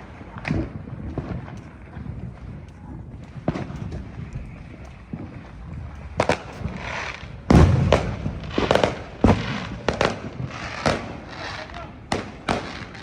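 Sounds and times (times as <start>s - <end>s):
firecracker crackling: 0.0s - 13.0s
fireworks and firecrackers banging: 0.0s - 13.0s.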